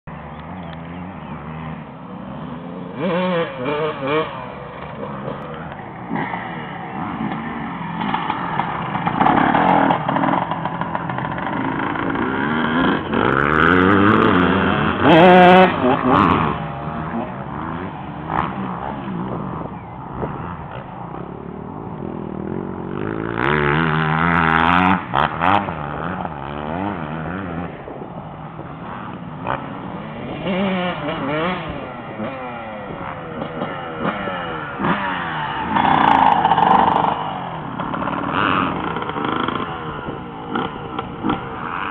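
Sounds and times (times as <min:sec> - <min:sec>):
motocross bike engine revving: 0:00.1 - 0:41.9.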